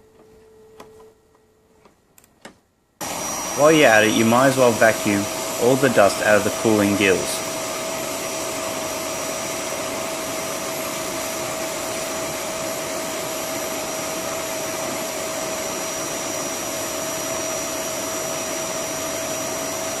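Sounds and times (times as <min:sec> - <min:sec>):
vacuum cleaner whine: 0:03.0 - 0:20.0.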